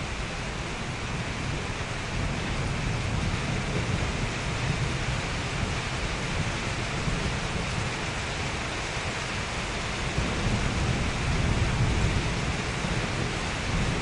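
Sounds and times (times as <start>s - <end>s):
soft rain hiss: 0.0s - 14.0s.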